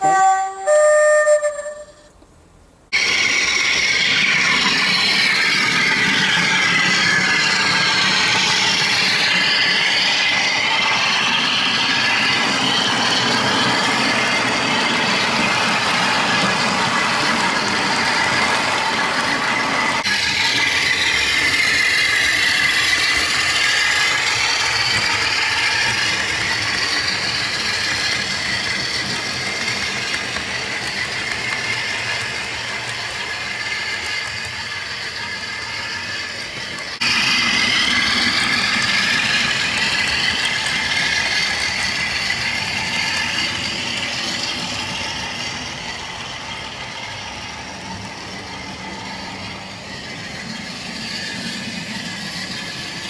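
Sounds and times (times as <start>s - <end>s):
model locomotive motor whirring: 3.0s - 53.0s.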